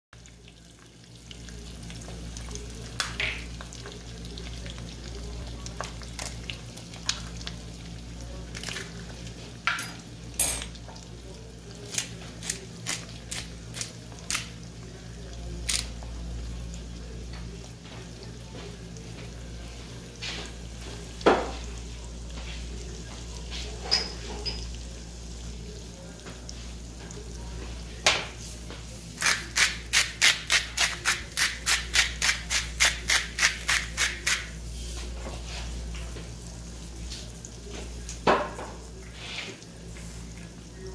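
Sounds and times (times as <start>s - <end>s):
eggs sizzling in oil: 0.2s - 40.9s.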